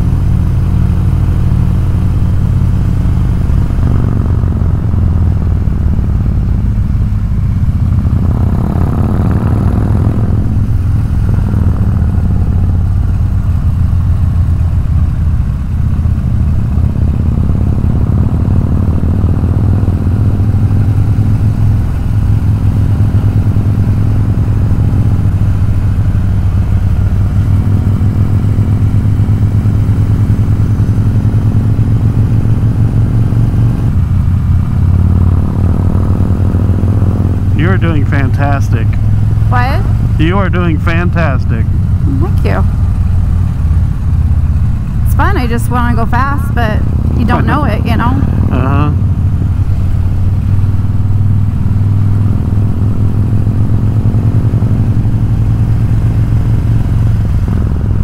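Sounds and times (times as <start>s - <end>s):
motorcycle engine rumbling: 0.0s - 58.0s.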